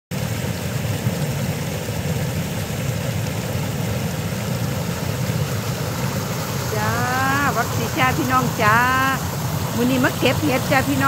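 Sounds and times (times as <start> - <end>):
stream rushing over rocks: 0.1 - 11.0.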